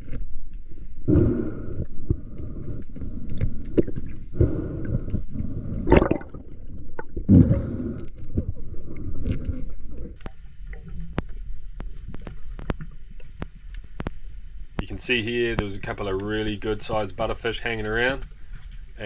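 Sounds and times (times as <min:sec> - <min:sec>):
underwater gurgling and surging: 0:00.0 - 0:19.0.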